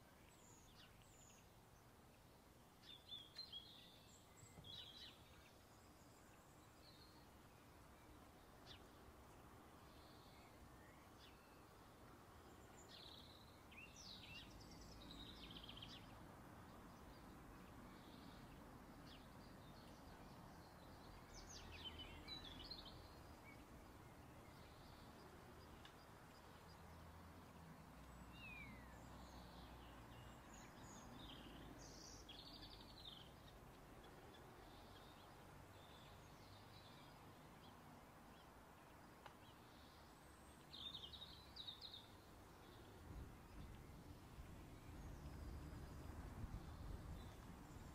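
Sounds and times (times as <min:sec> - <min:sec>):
low hiss: 0:00.0 - 0:47.9.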